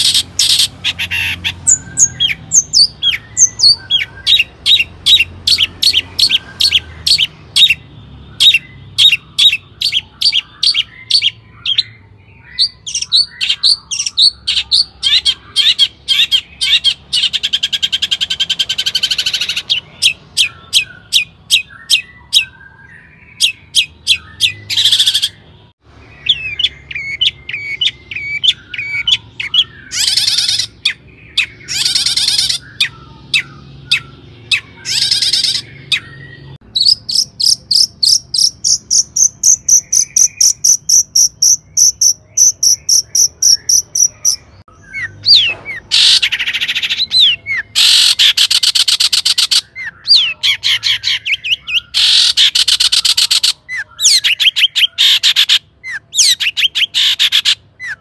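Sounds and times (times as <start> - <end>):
shrike singing: 0.0 - 58.0.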